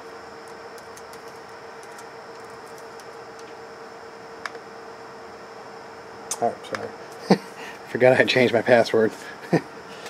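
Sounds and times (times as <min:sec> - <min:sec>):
steady hum with faint whine: 0:00.0 - 0:10.0.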